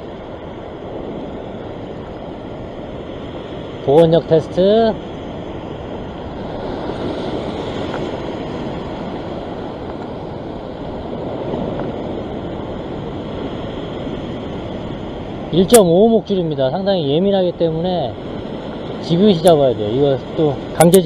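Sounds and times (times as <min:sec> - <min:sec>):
surf breaking over rocks: 0:00.0 - 0:21.0
wind on microphone: 0:00.0 - 0:21.0.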